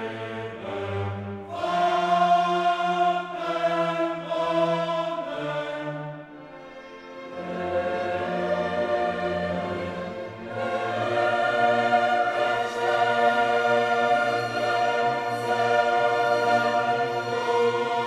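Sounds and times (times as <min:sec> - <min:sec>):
choral music: 0:00.0 - 0:18.0.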